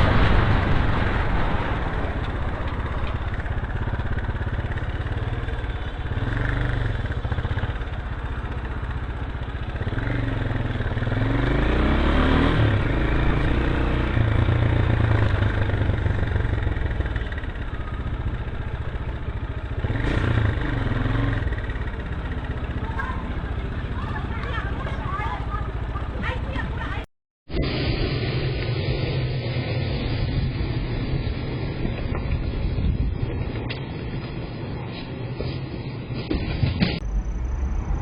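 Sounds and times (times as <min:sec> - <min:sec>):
traffic engine and tyre rumble: 0:00.0 - 0:38.0.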